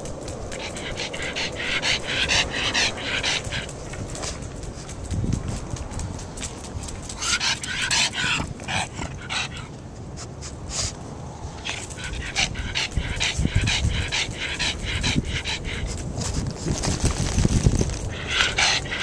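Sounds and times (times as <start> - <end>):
dog panting hard: 0.0 - 19.0.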